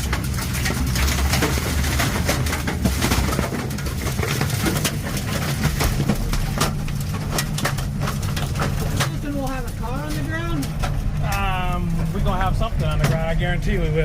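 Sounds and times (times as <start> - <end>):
debris knocking and rattling: 0.0 - 13.9
low rumble of wind: 0.0 - 14.0.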